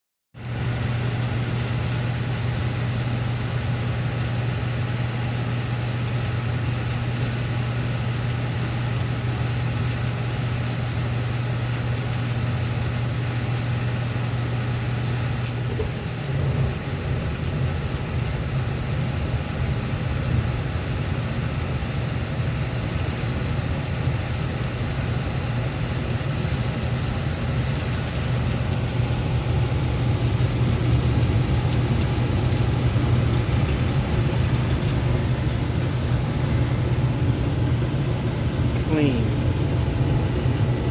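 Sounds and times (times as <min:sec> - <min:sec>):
furnace humming: 0:00.4 - 0:40.9.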